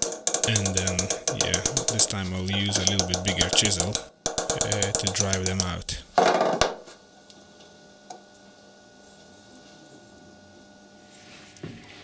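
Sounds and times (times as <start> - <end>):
faint steady hum: 0.3 - 12.0.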